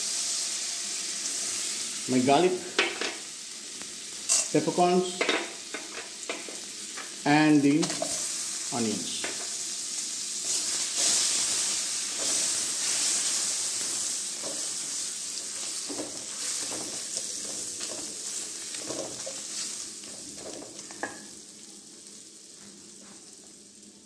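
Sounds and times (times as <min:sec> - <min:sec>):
onions sizzling in butter: 0:00.0 - 0:24.0.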